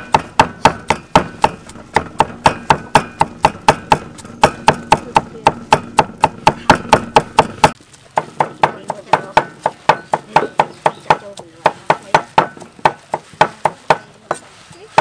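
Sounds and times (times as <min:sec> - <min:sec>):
cleaver chopping on wooden block: 0:00.0 - 0:14.4.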